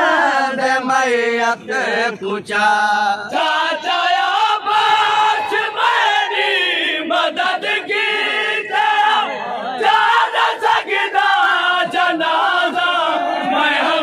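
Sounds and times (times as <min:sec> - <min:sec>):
men chanting a lament in unison: 0:00.0 - 0:14.0.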